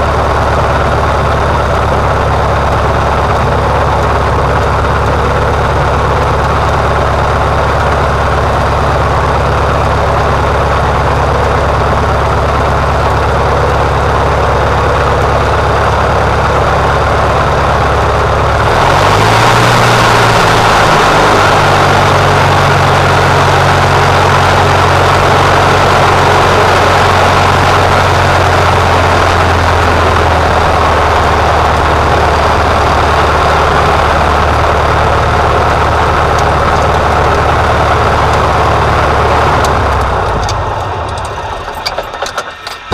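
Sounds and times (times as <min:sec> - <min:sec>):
airplane engine and propeller drone: 0:00.0 - 0:42.9.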